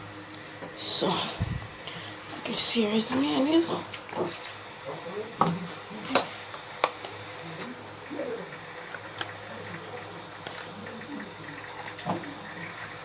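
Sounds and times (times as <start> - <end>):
faint hum and hiss: 0.0 - 13.0.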